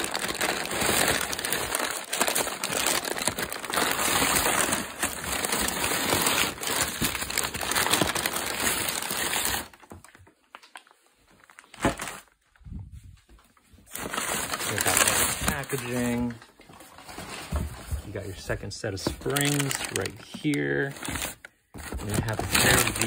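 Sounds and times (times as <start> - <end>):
packing paper crumpling: 0.0 - 12.4, 13.8 - 23.0.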